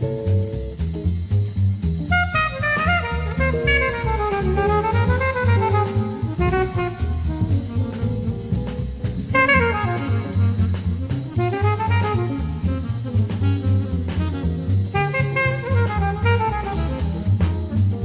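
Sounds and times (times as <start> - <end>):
bass line: 0.0 - 18.0
drum kit: 0.0 - 18.0
saxophone melody: 2.1 - 18.0.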